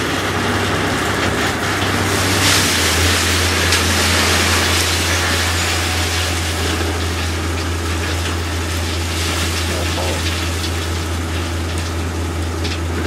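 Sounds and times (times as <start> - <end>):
truck engine humming: 0.0 - 13.0
wood chips pouring out: 0.0 - 13.0.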